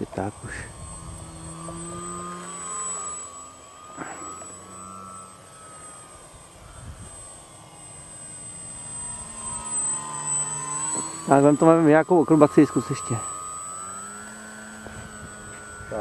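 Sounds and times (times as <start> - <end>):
model plane propeller whining: 0.0 - 16.0.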